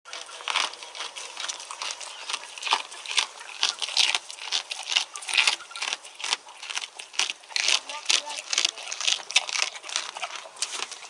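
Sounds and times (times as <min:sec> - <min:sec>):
goat chewing fish: 0:00.1 - 0:11.0.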